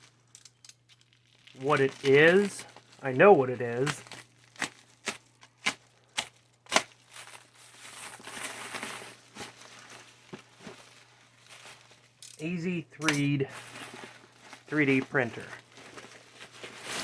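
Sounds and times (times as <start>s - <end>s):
packaging crinkling and snapping: 0.0s - 12.2s, 13.5s - 17.0s
packaging rustling and tearing: 0.0s - 12.2s, 13.2s - 17.0s.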